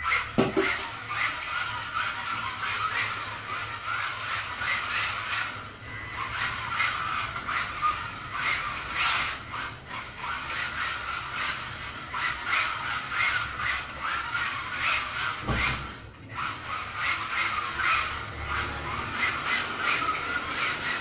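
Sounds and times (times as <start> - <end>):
toy car tyres scrubbing on tiles: 0.0 - 21.0.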